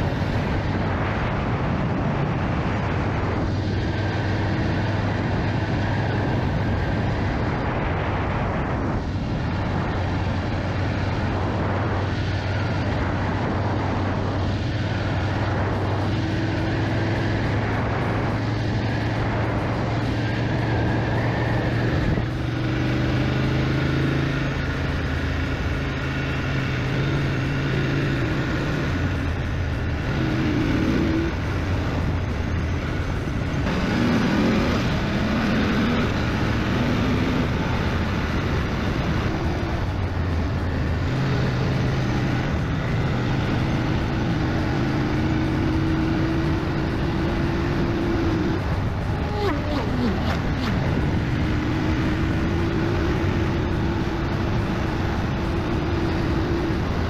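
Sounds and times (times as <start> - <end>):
motorcycle engine drone: 0.0 - 57.0
rushing noise: 0.0 - 57.0.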